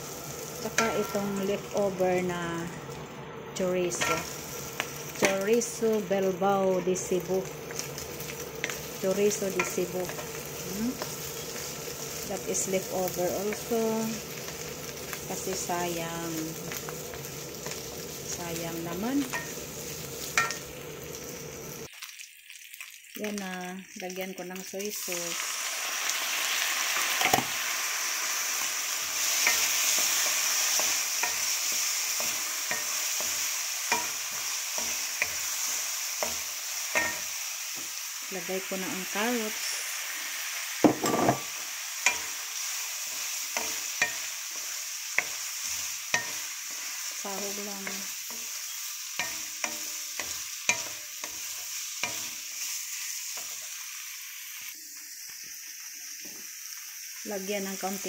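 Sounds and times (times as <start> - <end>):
meat and onions sizzling in wok: 0.0 - 58.0.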